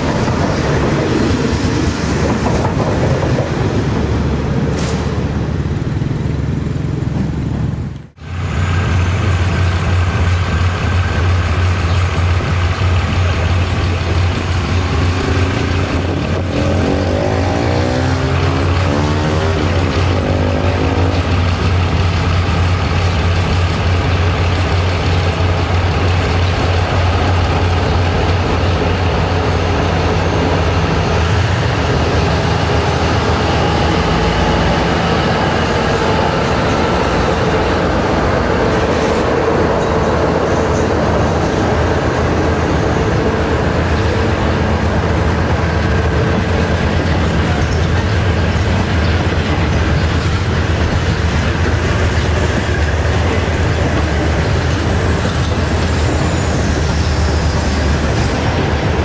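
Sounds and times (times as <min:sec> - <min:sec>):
diesel locomotive engine: 0:00.0 - 0:59.0
train wheels on rails: 0:00.0 - 0:59.0.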